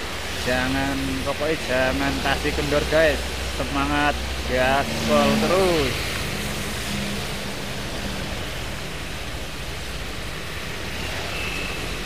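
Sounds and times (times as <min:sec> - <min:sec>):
tyres swishing on wet road: 0:00.0 - 0:12.0.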